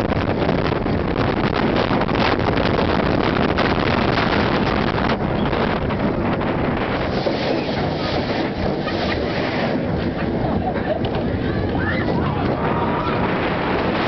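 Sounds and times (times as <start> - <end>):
roller coaster rumbling on track: 0.0 - 14.0
wind rushing over microphone: 0.0 - 14.0.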